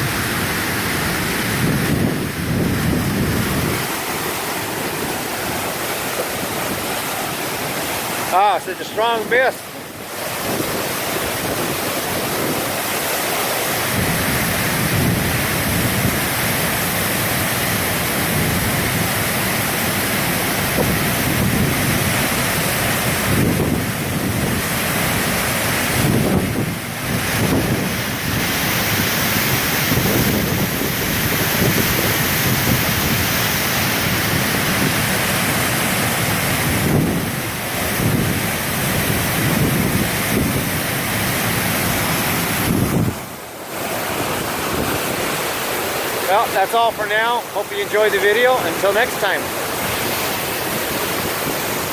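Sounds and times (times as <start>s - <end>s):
wind buffeting microphone: 0.0s - 8.3s, 9.6s - 46.2s
waterfall rushing: 0.0s - 51.9s.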